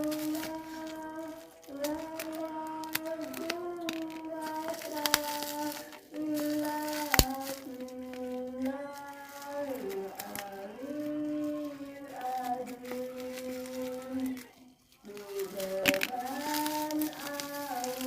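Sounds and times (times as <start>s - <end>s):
high voice humming a slow tune: 0.0s - 14.5s
packaging crinkling: 0.0s - 18.0s
sharp clicks: 0.0s - 18.0s.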